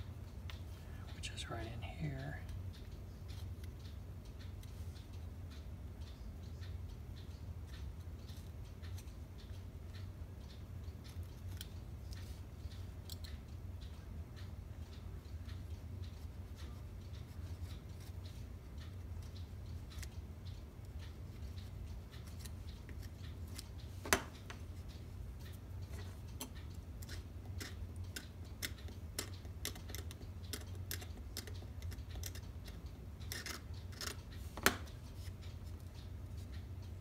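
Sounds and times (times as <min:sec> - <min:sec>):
sharp clicks: 0:00.0 - 0:37.0
steady low hum: 0:00.0 - 0:37.0.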